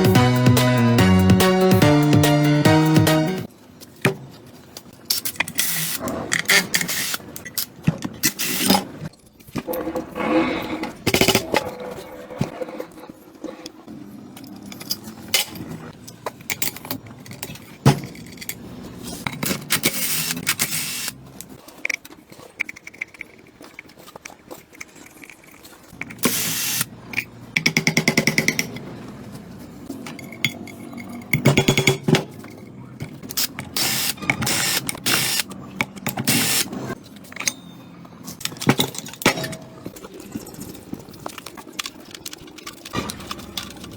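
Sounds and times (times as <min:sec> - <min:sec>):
metal tools clinking and scraping: 0:04.4 - 0:27.5, 0:28.4 - 0:43.9.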